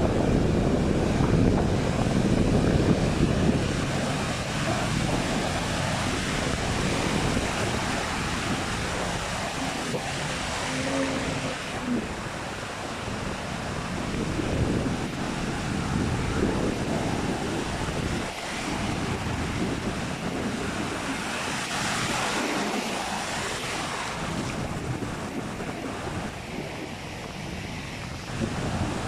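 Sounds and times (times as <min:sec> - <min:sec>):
ocean surf: 0:00.0 - 0:29.0
wind buffeting microphone: 0:00.0 - 0:29.0.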